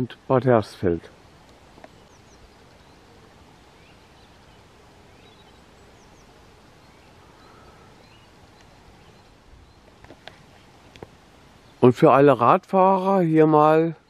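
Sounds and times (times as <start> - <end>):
distant bird chirps: 0.0 - 14.0
steady low hiss: 0.0 - 14.0.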